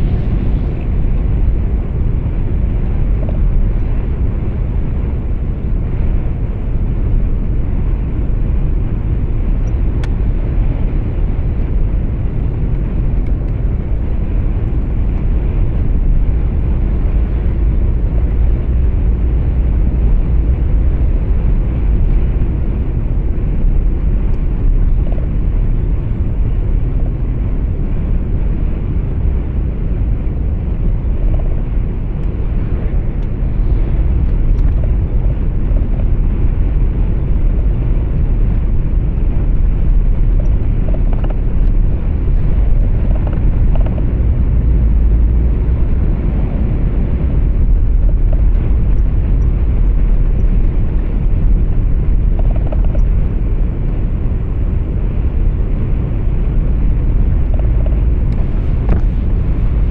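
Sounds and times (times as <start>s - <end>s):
road noise inside cab: 0.0s - 59.9s.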